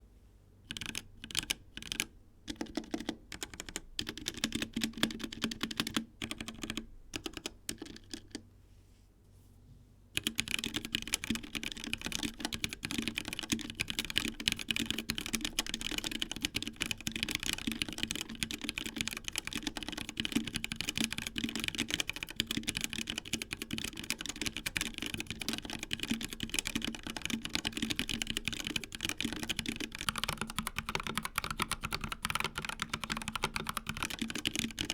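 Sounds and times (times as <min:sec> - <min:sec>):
typing on mechanical keyboard: 0:00.7 - 0:08.4, 0:10.2 - 0:34.9.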